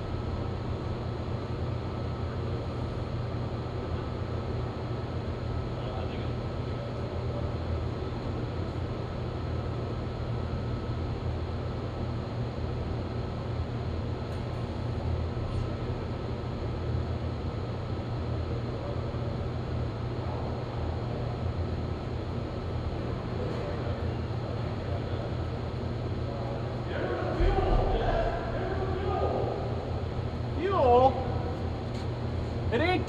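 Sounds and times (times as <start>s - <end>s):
faint engine whine: 0.0s - 33.0s.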